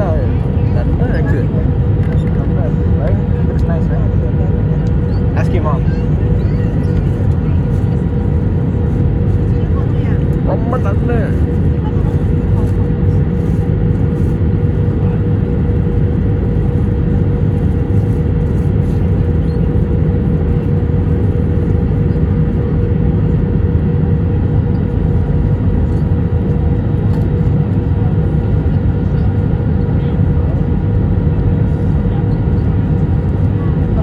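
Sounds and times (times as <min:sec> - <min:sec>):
airliner engine and airflow noise: 0:00.0 - 0:34.0.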